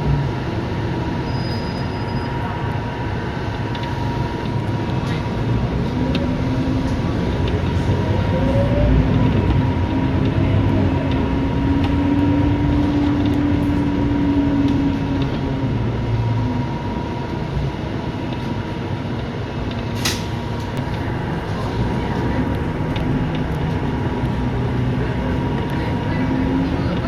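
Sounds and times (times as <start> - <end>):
bus engine rumble and whine: 0.0 - 27.0.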